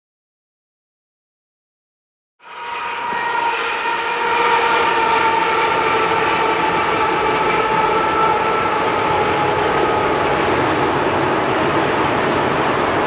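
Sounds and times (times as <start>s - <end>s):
diesel locomotive whine: 2.4s - 13.0s
rumble of rolling train: 2.4s - 13.0s.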